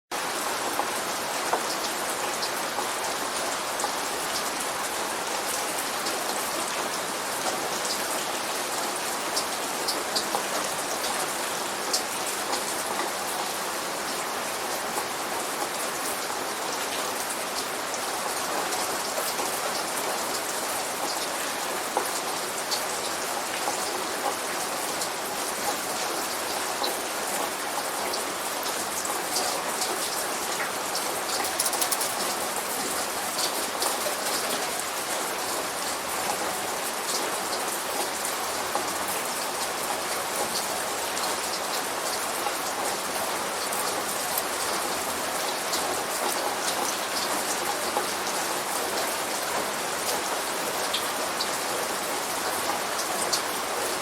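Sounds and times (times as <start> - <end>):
light rain hiss: 0.2 - 54.0.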